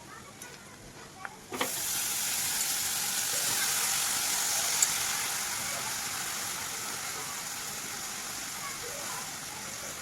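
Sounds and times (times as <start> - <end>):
shrimp sizzling in a hot pan: 1.6 - 10.0.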